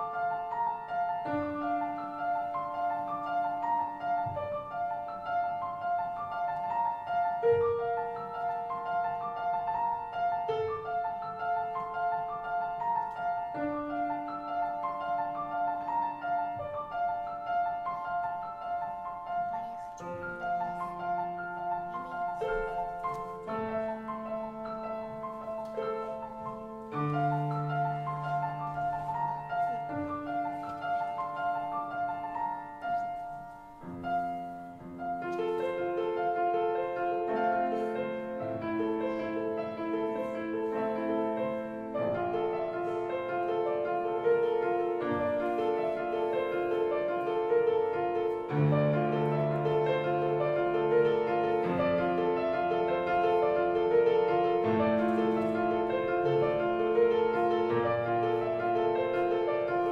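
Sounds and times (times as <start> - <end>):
solo grand piano: 0.0 - 59.9.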